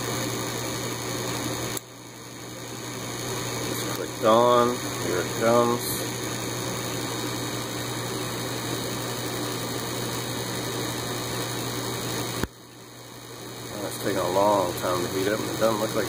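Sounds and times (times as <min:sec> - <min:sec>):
furnace fan motor humming: 0:00.0 - 0:16.0.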